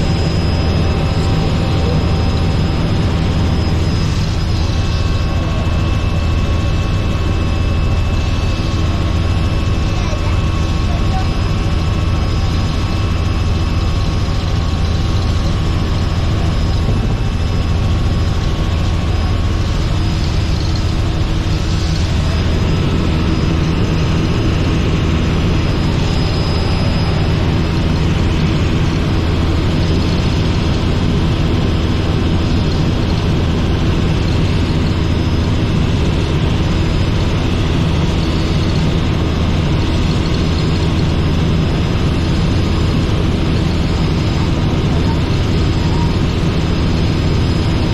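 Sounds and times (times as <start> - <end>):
helicopter in flight: 0.0 - 47.9.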